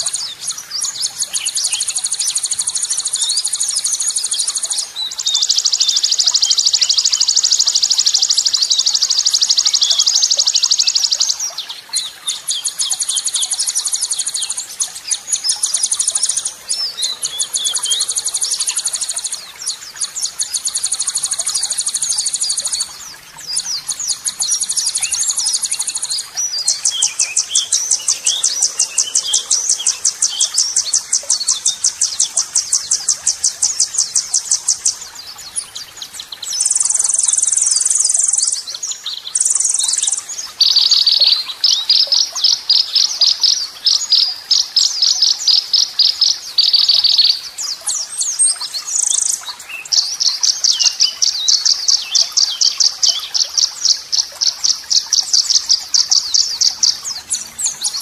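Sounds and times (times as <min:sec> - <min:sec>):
high-pitched songbird trills: 0:00.0 - 0:58.0.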